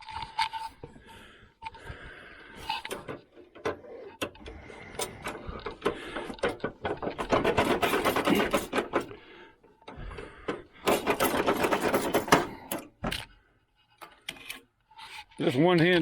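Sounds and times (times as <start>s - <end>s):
metallic clicking and scraping: 0.0s - 0.8s, 2.5s - 13.3s, 13.9s - 16.0s.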